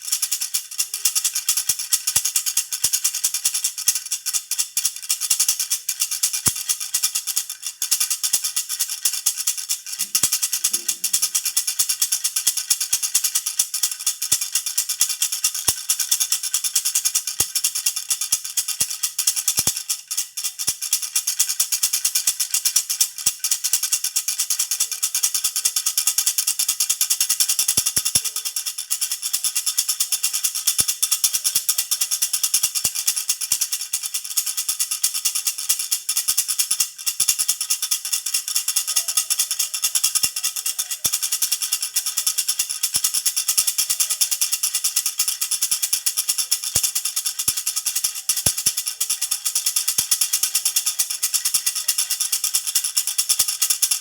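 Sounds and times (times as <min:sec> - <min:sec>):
baby rattle jingling: 0:00.0 - 0:54.0.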